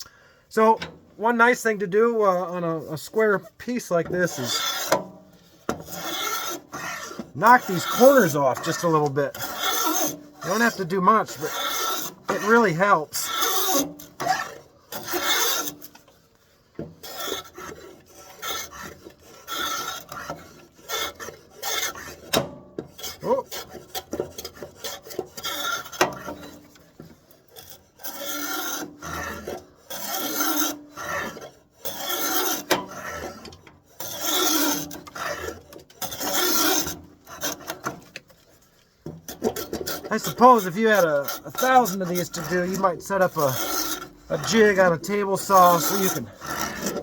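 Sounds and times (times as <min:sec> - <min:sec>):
hand tool scraping wood: 0:00.6 - 0:47.0.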